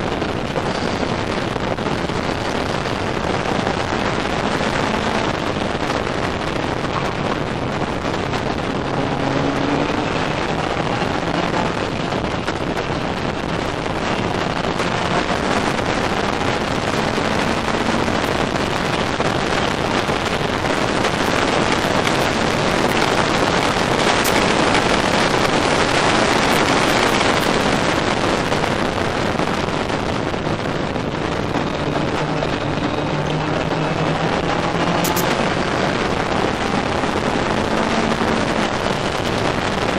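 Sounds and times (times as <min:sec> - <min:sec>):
race car engine running hard: 0:00.0 - 0:39.9
wind rushing over microphone: 0:00.0 - 0:39.9.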